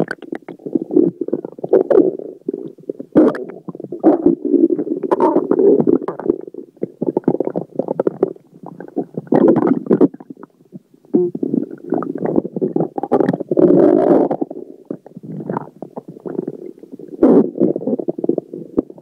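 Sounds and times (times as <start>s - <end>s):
stomach gurgling and rumbling: 0.0s - 19.0s.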